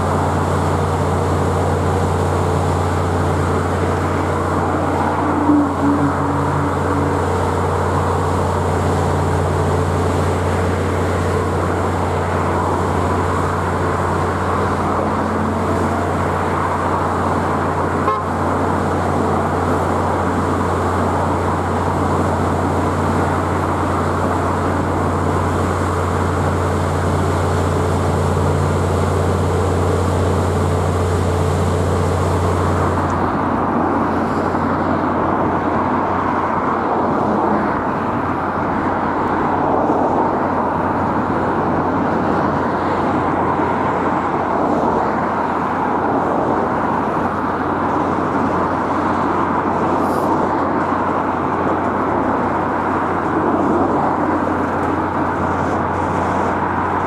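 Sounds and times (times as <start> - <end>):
low steady drone: 0.0 - 57.0.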